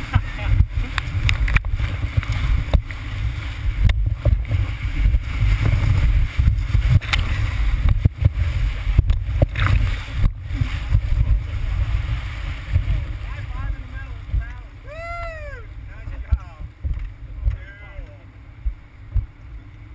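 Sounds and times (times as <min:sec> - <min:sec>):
whitewater rushing: 0:00.0 - 0:16.6.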